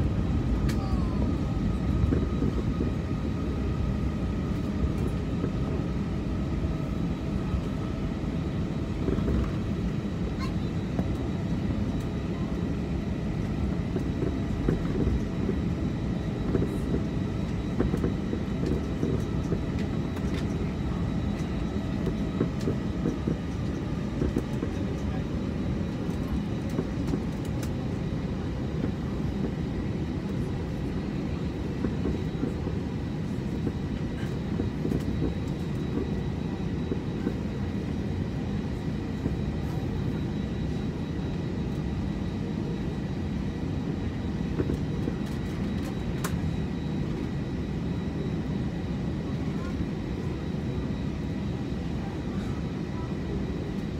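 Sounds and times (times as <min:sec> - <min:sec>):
aircraft engines rumbling: 0:00.0 - 0:53.9.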